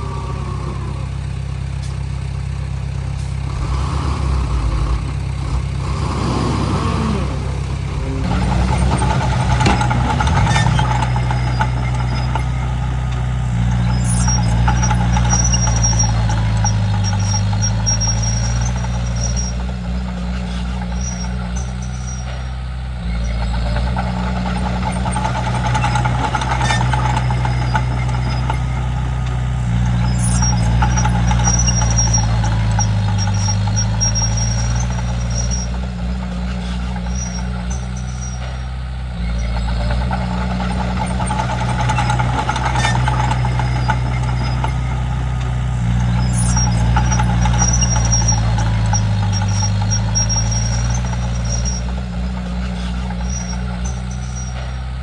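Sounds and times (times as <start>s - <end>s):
high squeal: 0.0s - 2.3s, 3.3s - 55.0s
bulldozer diesel engine: 0.0s - 55.0s.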